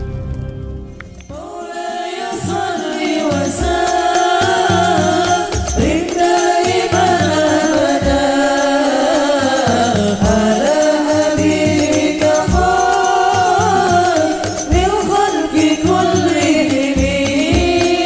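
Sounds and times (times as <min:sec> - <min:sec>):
steady low drum beat: 0:01.3 - 0:18.0
wavering chant-like singing: 0:01.3 - 0:18.0.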